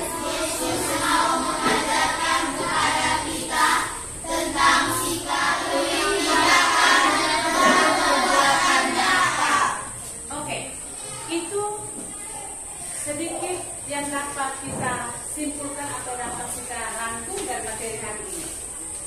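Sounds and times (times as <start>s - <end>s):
children reading aloud in unison: 0.0s - 19.0s.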